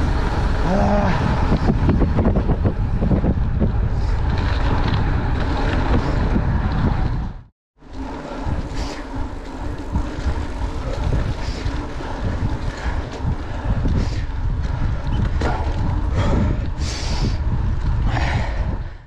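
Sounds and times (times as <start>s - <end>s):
bike rattles and clicks: 0.0s - 19.0s
low rumble of tyres: 0.0s - 19.0s
wind buffeting microphone: 0.0s - 19.0s.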